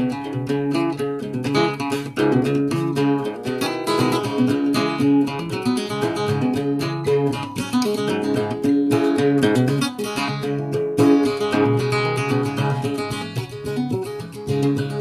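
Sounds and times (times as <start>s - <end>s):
guitar strumming and plucking: 0.0s - 15.0s.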